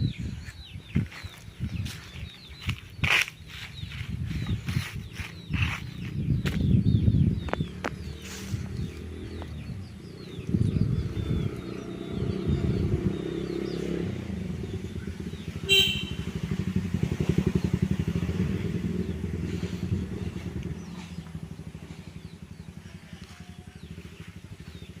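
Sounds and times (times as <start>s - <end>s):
motorbike engine passing: 4.7s - 25.0s.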